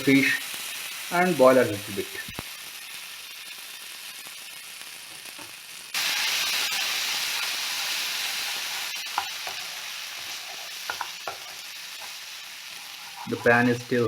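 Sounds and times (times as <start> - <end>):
paste sizzling in hot pan: 0.0 - 14.0.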